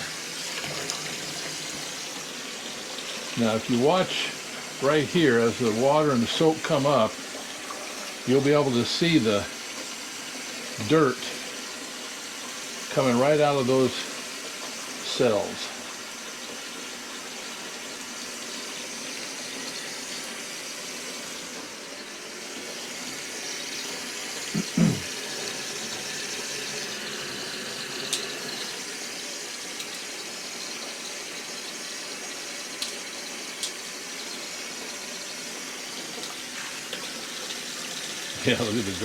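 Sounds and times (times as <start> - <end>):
water running from a faucet: 0.0 - 39.0.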